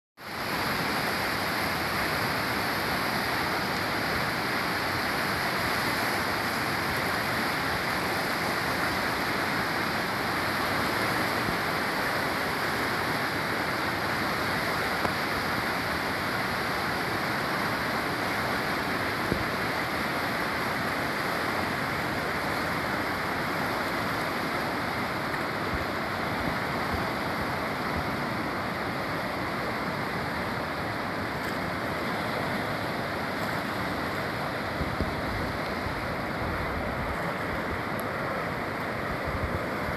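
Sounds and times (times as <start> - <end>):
river rushing through rapids: 0.2 - 39.9.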